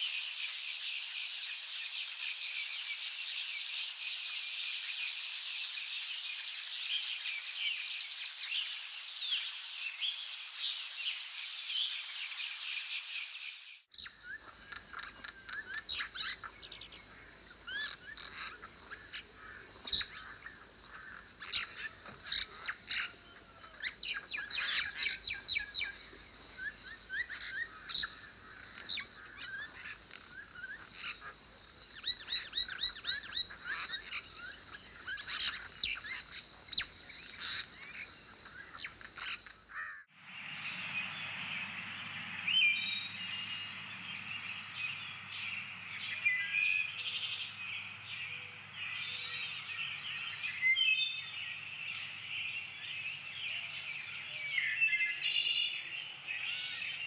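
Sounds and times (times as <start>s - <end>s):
steady high hiss: 0.0s - 46.4s
small birds chirping chorus: 0.0s - 57.0s.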